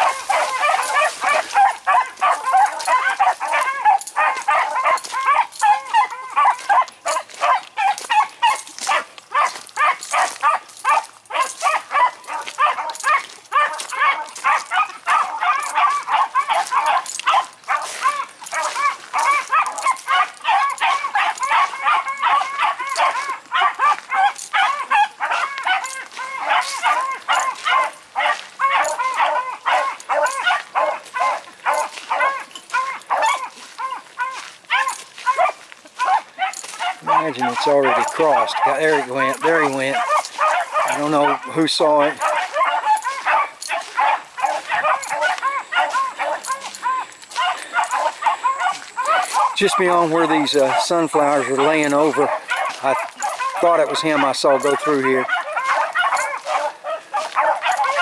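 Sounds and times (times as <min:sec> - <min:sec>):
dog baying: 0:00.0 - 0:58.0.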